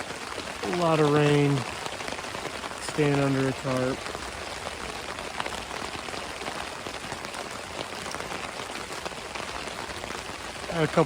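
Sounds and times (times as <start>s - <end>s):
rain on a tarp: 0.0s - 11.0s.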